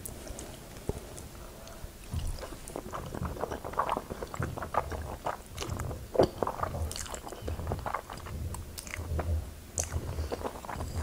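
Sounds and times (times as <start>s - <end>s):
person slurping and chewing pasta: 2.0s - 11.0s.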